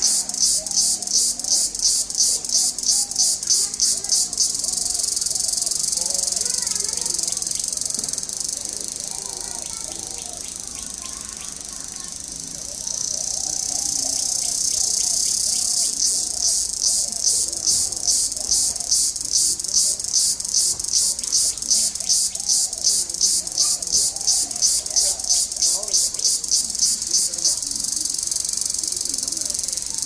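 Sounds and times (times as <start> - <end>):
high-pitched insect buzz: 0.0 - 30.0.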